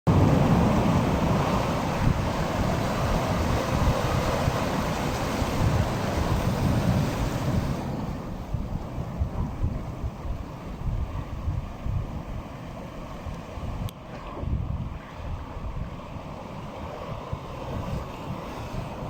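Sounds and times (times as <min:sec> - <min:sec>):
sea surf washing onto beach: 0:00.1 - 0:19.0
wind buffeting microphone: 0:00.1 - 0:19.0.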